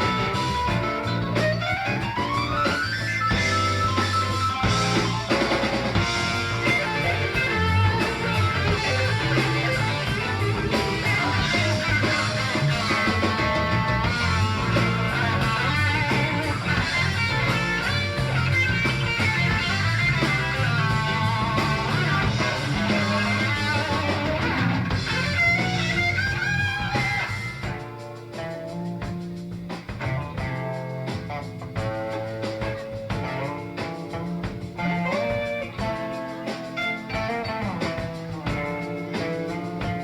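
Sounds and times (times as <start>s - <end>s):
bass line: 0.0s - 40.0s
drums: 0.0s - 40.0s
electric guitar lines: 0.0s - 40.0s.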